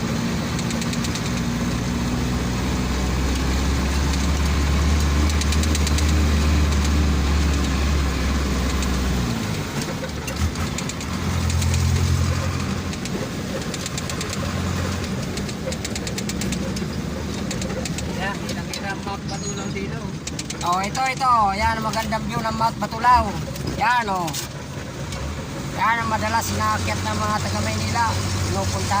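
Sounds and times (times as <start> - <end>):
truck engine droning: 0.0 - 29.0.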